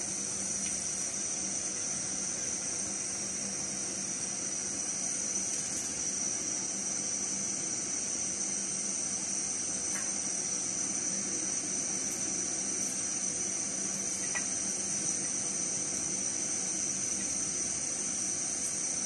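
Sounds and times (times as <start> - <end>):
gas burner hissing: 0.0 - 19.0.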